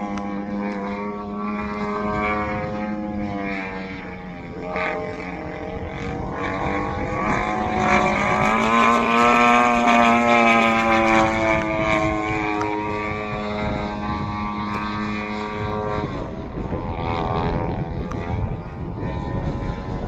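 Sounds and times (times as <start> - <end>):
model plane engine droning: 0.0 - 20.0.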